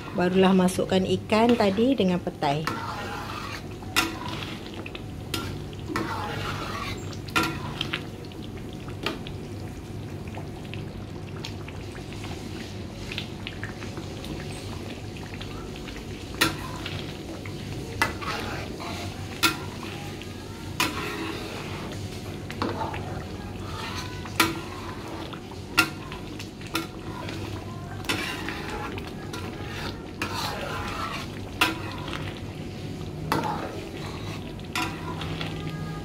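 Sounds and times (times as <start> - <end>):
paste sizzling in oil: 0.0 - 10.9, 11.6 - 36.0.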